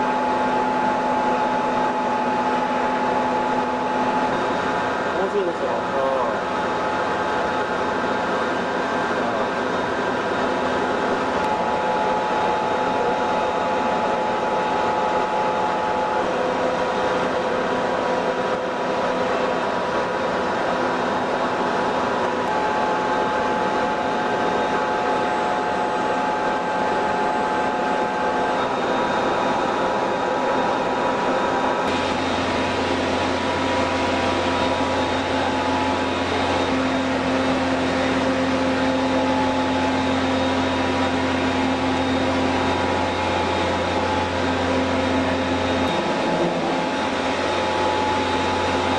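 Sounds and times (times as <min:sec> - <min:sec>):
plant machinery humming and whining: 0:00.0 - 0:48.9.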